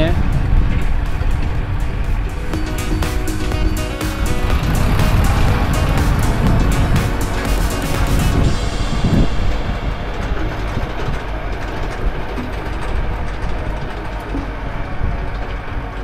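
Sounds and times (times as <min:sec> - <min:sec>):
tractor engine under load: 0:00.4 - 0:16.0.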